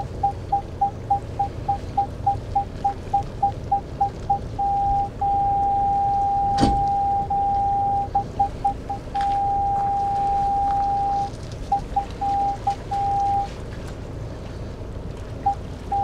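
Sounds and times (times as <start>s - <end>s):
parking sensor beeping: 0.0s - 13.5s, 15.4s - 16.0s
low engine rumble: 0.0s - 16.0s
wind: 0.0s - 16.0s.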